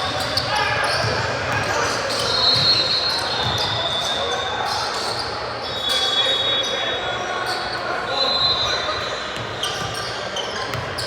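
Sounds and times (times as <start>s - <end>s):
murmur of voices: 0.0s - 11.0s
shoe squeaks: 2.1s - 11.0s.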